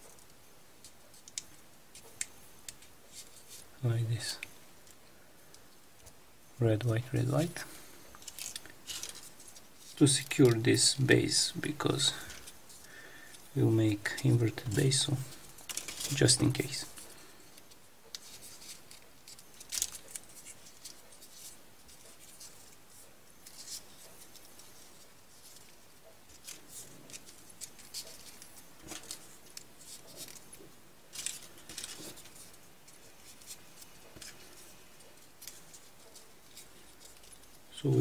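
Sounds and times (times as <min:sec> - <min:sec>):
paper rustling: 0:07.5 - 0:38.0.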